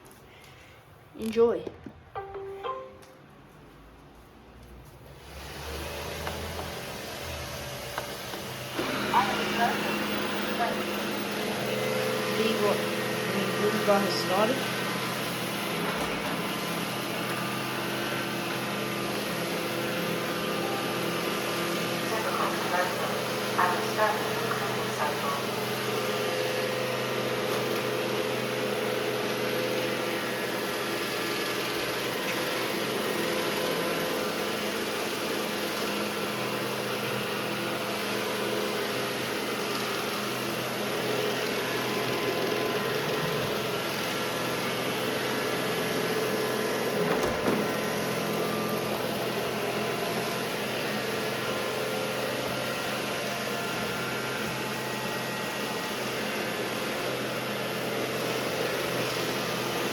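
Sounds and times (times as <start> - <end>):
robot vacuum motor and brush hum: 5.1 - 59.9.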